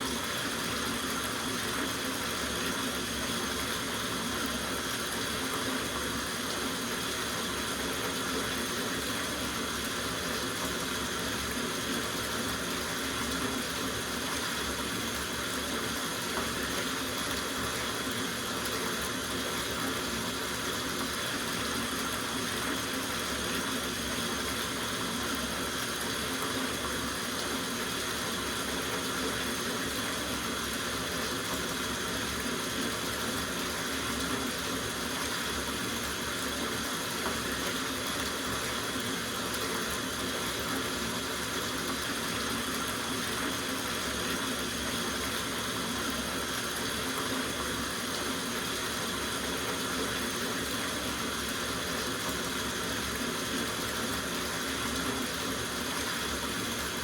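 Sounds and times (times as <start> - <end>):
tap water filling bathtub: 0.0 - 57.0.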